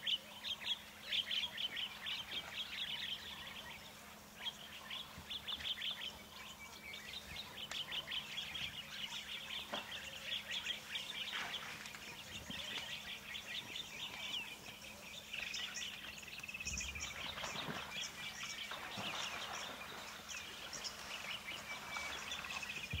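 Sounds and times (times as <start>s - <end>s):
wild birds chirping: 0.0s - 23.0s.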